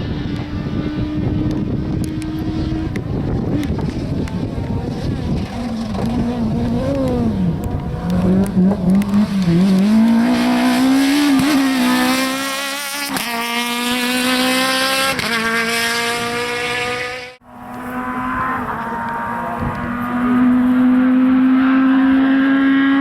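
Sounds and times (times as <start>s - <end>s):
rally car engine revving: 0.0s - 23.0s
gear upshifts: 1.4s - 22.5s.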